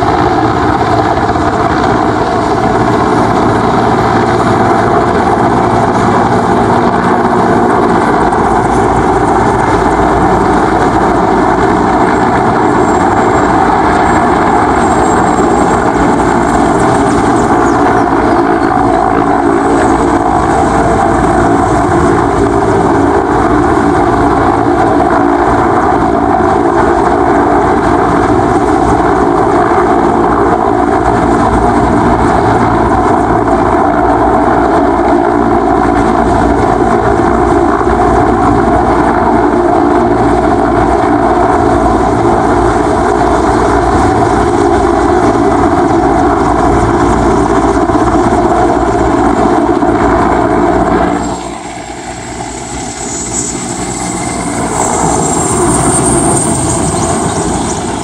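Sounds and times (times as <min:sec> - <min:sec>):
helicopter rotor and turbine noise: 0:00.0 - 0:58.0
thin steady whine: 0:00.0 - 0:58.0.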